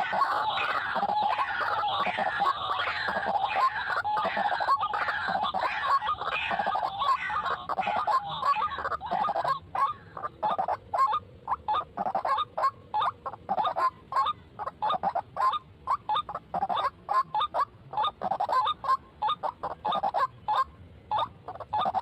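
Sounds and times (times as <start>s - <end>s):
waterhen croaking calls: 0.0s - 22.0s.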